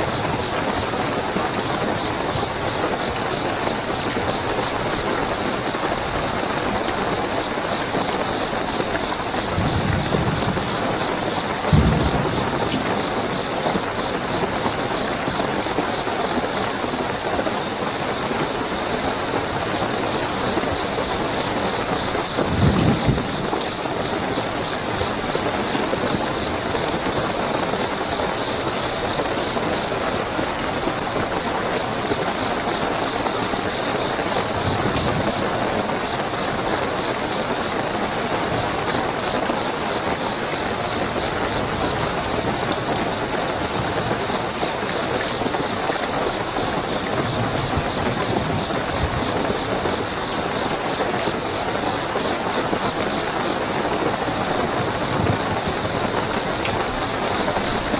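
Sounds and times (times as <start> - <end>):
crickets trilling: 0.0 - 57.9
heavy rain: 0.0 - 57.9.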